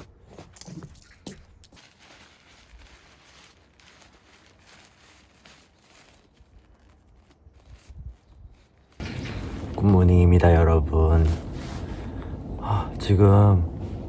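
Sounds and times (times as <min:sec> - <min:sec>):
faint rustling and crinkling: 0:00.0 - 0:14.0.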